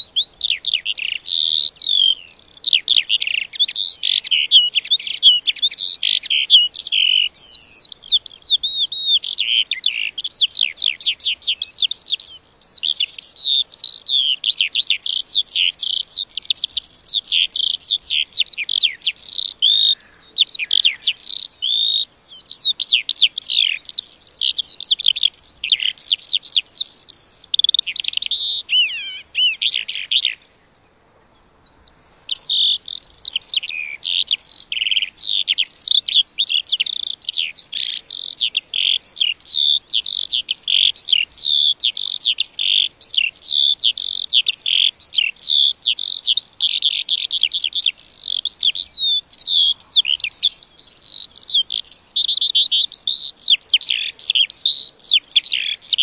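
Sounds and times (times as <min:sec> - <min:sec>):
lark singing: 0:00.0 - 0:56.0.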